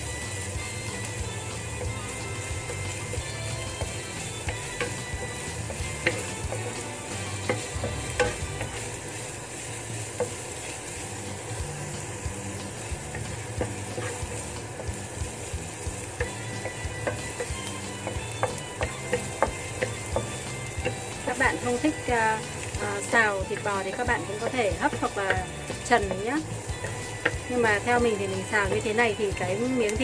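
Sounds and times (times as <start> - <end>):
garlic sizzling in hot oil: 0.0 - 30.0
wooden spatula tapping a pan: 0.8 - 9.3, 10.1 - 10.8, 11.4 - 30.0.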